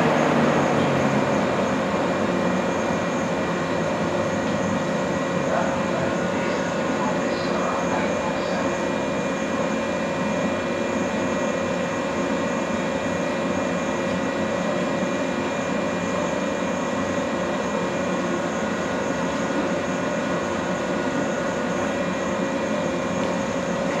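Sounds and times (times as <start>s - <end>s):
electric train hum and whine: 0.0s - 24.0s.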